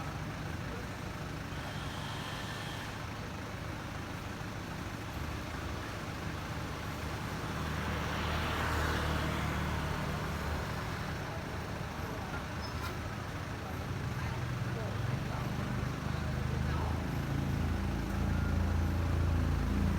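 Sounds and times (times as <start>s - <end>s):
low engine rumble of traffic: 0.0s - 19.9s.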